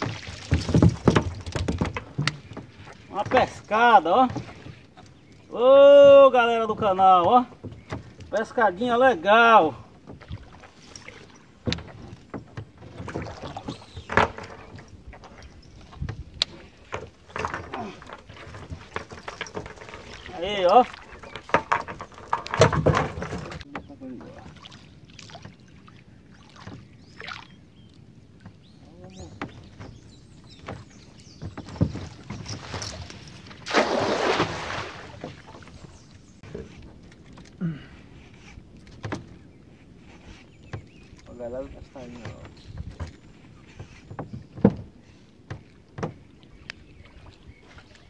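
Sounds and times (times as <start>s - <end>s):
water splashing and sloshing: 0.0s - 48.0s.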